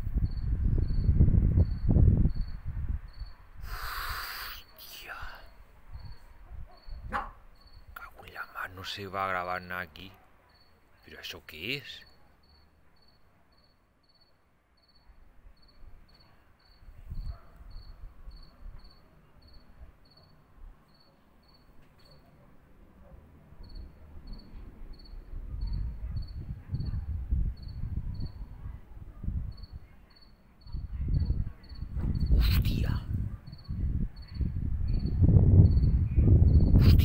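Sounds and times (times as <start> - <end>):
cricket chirping: 0.1 - 28.5, 29.5 - 37.0.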